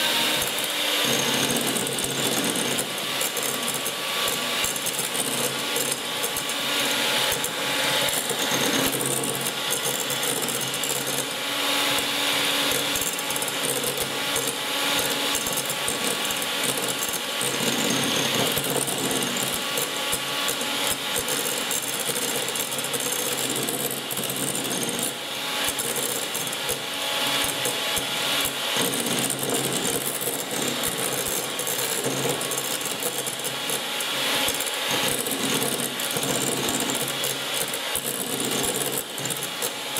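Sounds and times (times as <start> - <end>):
electric hand mixer whirring: 0.0 - 39.9.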